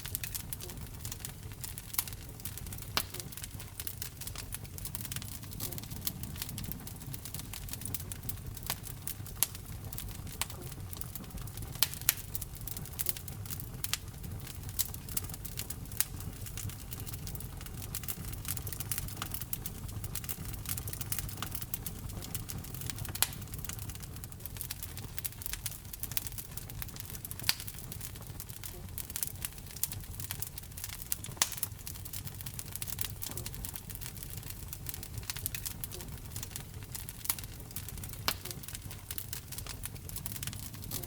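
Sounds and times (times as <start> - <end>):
fire popping: 0.0 - 41.0
wood fire crackling: 0.0 - 41.0.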